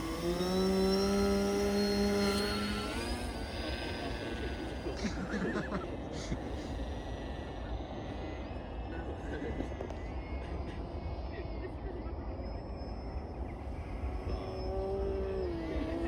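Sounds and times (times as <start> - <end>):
model aircraft propellers whining: 0.0 - 10.4, 12.8 - 16.0.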